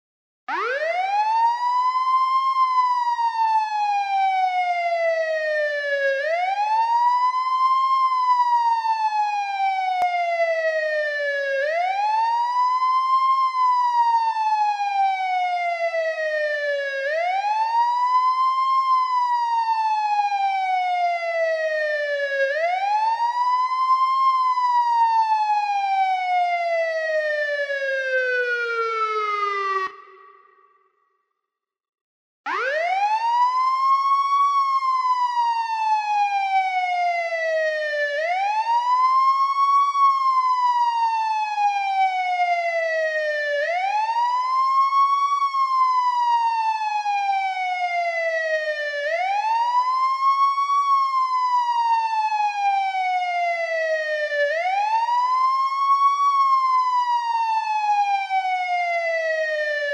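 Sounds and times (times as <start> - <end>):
police siren wailing: 0.5 - 30.9, 32.5 - 59.9.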